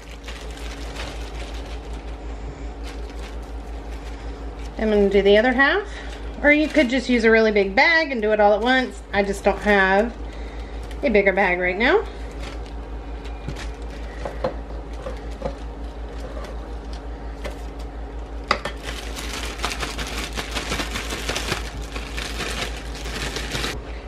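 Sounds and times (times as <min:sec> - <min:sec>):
plastic bag crinkling and shaking: 0:00.0 - 0:23.8
steady low hum: 0:00.0 - 0:24.0.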